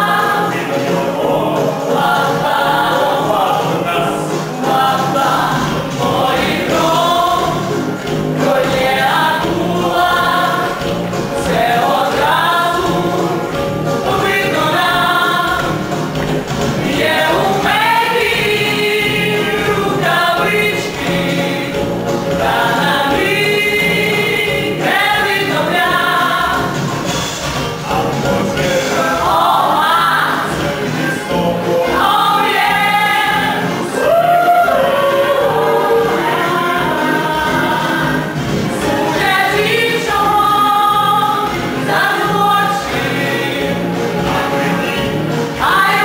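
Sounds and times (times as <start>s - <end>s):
group of voices singing: 0.0s - 46.0s
instrumental accompaniment: 0.0s - 46.0s.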